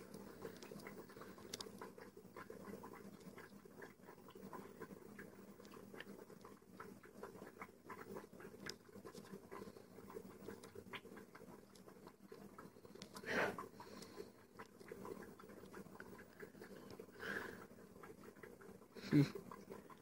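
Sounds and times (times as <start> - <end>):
faint clicks and taps: 0.0 - 20.0
low room hum: 0.0 - 20.0.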